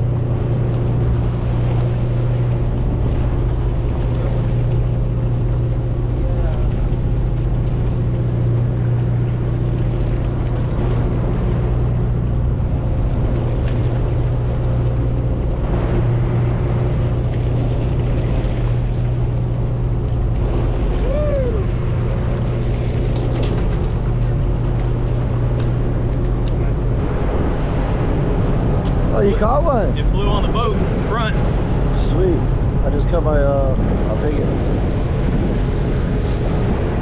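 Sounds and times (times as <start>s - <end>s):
boat engines idling: 0.0s - 37.0s.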